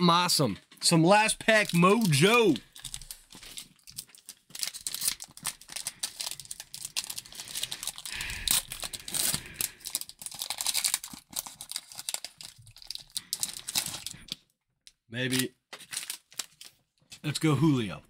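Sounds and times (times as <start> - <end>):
foil wrapper crinkling and tearing: 1.4 - 14.5, 15.2 - 16.8.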